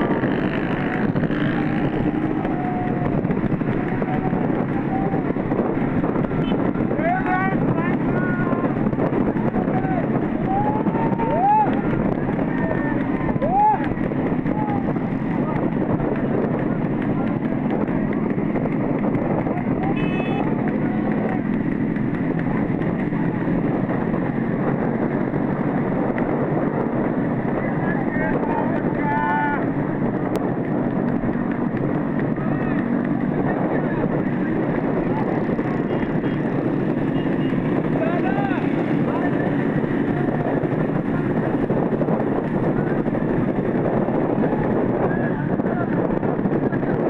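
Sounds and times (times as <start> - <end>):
motorbike engines running: 0.0 - 47.0
wind rushing over microphone: 0.0 - 47.0.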